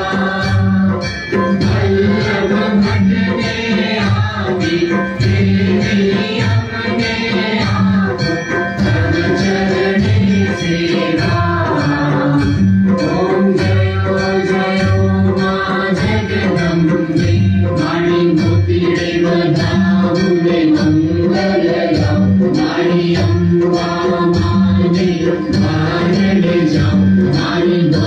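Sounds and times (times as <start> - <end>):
hand percussion beat: 0.0 - 28.0
voices singing together: 0.0 - 28.0.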